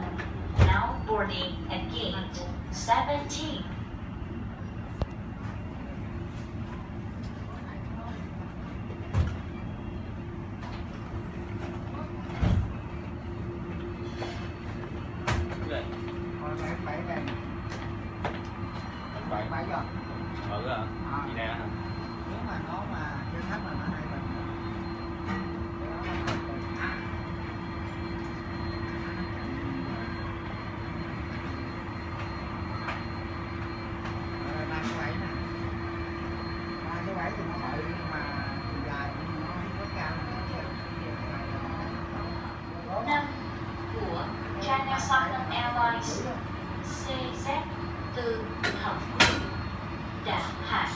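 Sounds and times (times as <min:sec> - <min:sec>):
faint constant hum: 0:00.0 - 0:50.9
jet engines idling: 0:00.0 - 0:50.9.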